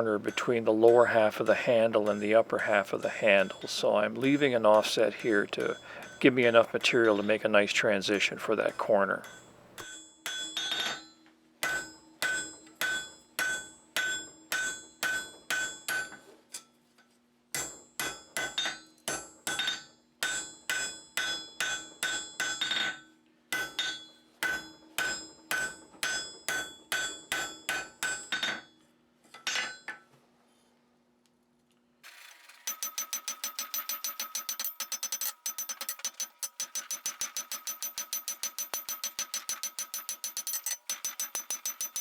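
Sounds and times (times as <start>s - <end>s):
hammer striking iron on anvil: 0.2s - 7.3s, 8.7s - 16.2s, 17.6s - 28.7s, 32.7s - 42.0s.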